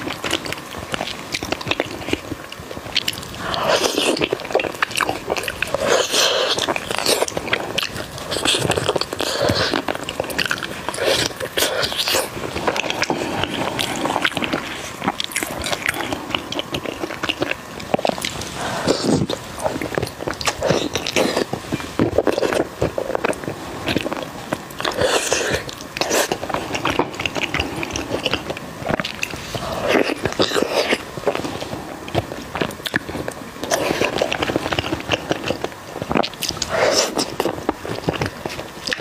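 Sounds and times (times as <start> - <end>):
person biting and chewing: 0.0 - 39.0.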